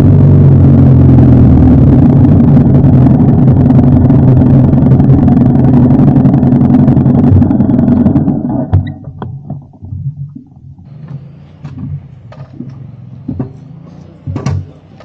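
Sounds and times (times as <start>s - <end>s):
motorcycle engine idling: 0.0s - 9.8s, 10.6s - 15.0s.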